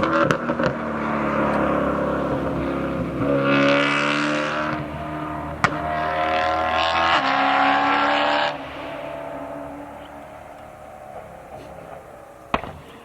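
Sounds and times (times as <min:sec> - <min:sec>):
car exhaust at high revs: 0:00.0 - 0:13.0
exhaust crack: 0:00.0 - 0:13.0.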